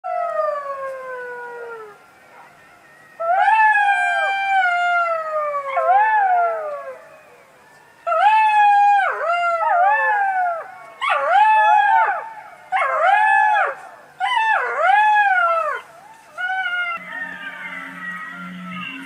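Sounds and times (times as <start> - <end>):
fox calling with whining howls: 0.1 - 19.0.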